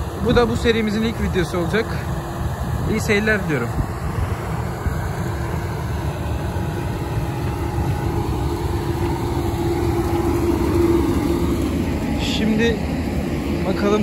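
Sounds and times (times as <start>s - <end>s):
grain dryer machinery rumbling: 0.0s - 14.0s.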